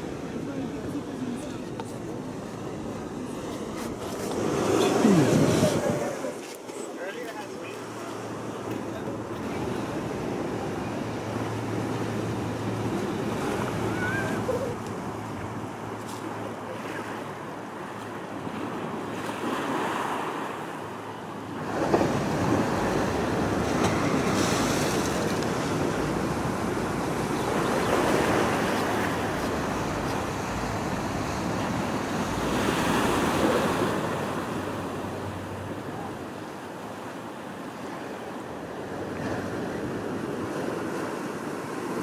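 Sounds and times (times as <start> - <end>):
ocean surf washing ashore: 0.0 - 42.0.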